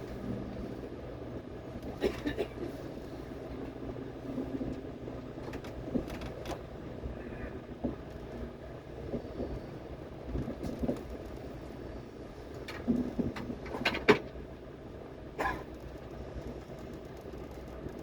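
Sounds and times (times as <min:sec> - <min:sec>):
train cabin low rumble: 0:00.0 - 0:18.0.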